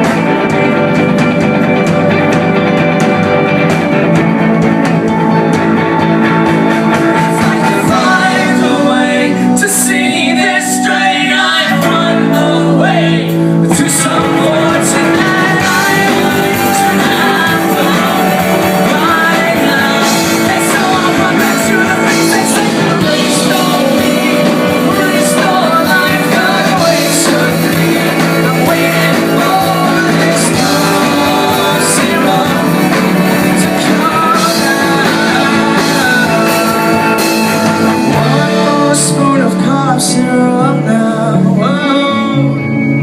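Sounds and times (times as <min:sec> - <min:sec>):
electric guitars: 0:00.0 - 0:43.0
rock band playing live: 0:00.0 - 0:43.0
person singing: 0:05.4 - 0:43.0.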